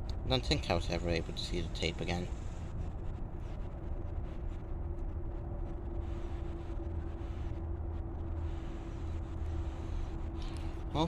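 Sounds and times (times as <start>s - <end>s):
low rumble: 0.0s - 11.0s
machine hum: 0.0s - 11.0s.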